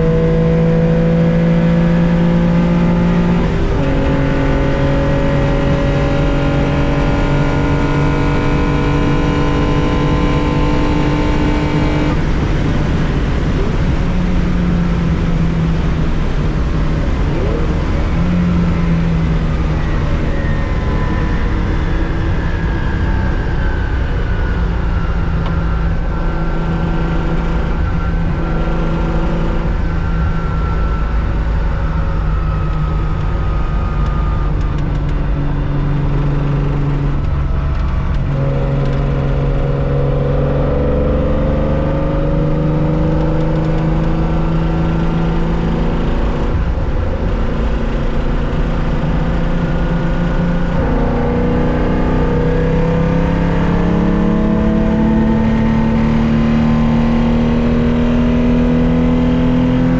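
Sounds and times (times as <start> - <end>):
car engine at racing speed: 0.0 - 59.9.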